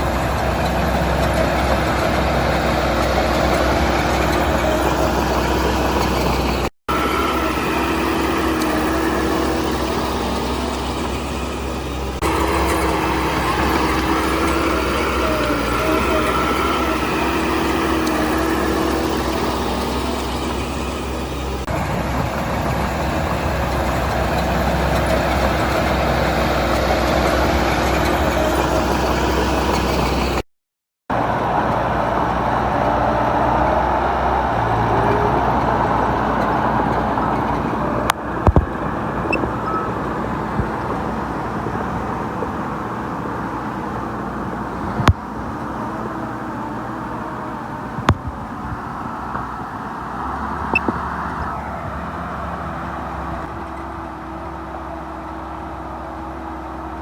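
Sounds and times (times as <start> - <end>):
heavy machinery diesel engines: 0.0 - 30.4, 31.1 - 57.0.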